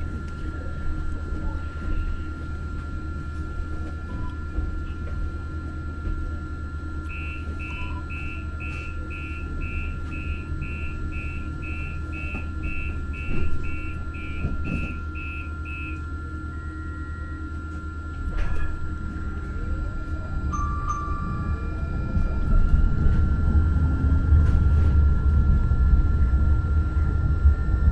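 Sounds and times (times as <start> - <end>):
light-rail train rumbling: 0.0 - 27.9.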